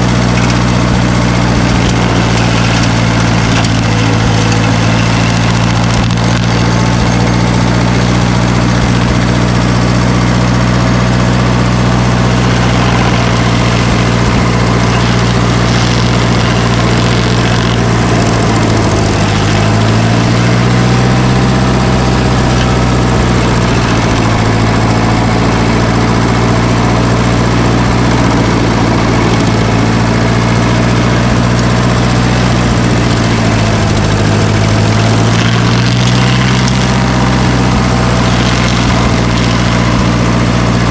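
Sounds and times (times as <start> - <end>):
heavy machine engine running: 0.0 - 40.9.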